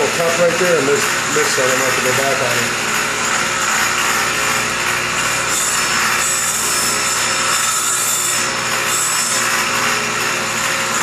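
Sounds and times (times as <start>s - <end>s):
saw blade rasping wood: 0.0s - 11.0s
table saw motor hum: 0.0s - 11.0s.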